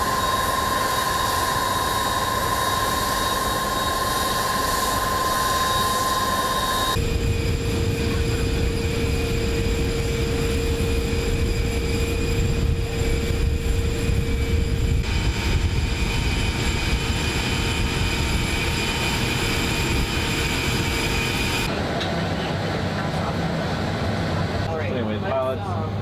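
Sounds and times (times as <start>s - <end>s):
jet engines running: 0.0s - 25.4s.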